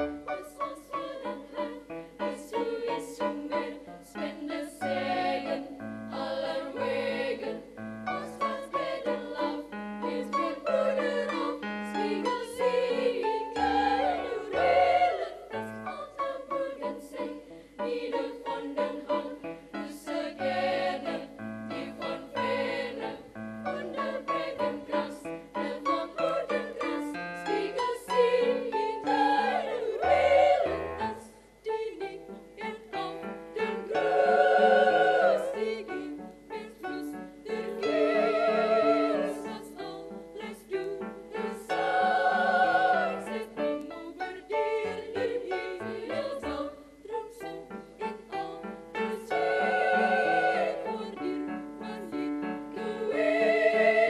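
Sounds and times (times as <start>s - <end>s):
female choir singing: 0.0s - 54.0s.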